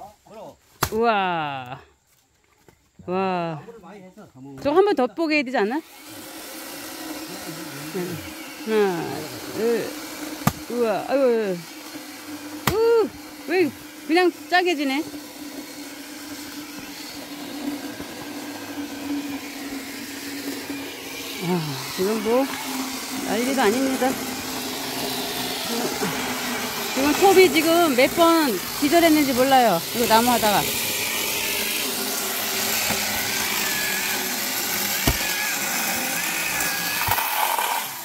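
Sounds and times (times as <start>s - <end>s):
chainsaw running: 5.4s - 38.0s.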